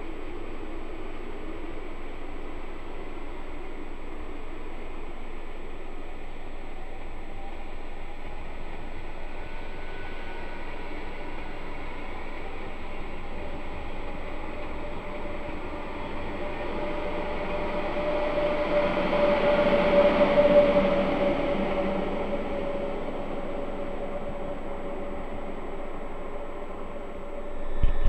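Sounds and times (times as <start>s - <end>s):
electric train pulling out: 0.0s - 28.0s.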